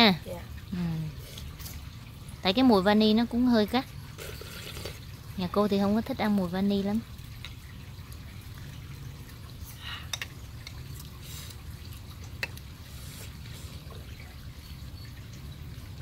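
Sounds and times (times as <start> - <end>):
soft liquid sounds: 0.0 - 16.0.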